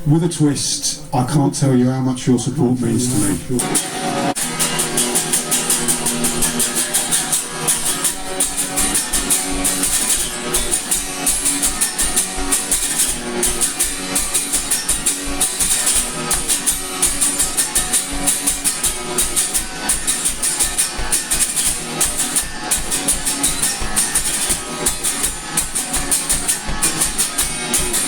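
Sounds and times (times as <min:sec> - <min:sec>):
electric guitar: 0:03.0 - 0:28.0
fast drum beat: 0:03.1 - 0:28.0
ticking hi-hat: 0:03.2 - 0:28.0.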